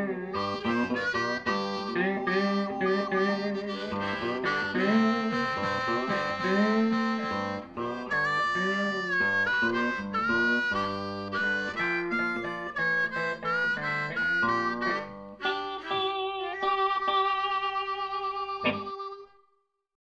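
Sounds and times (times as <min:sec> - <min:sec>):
blues harmonica wailing: 0:00.0 - 0:19.5
guitar: 0:00.0 - 0:19.5.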